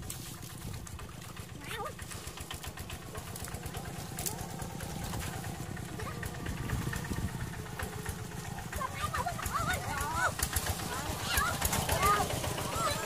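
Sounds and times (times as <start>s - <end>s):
engine rumbling: 0.0s - 13.0s
water splashing and sloshing: 0.0s - 13.0s.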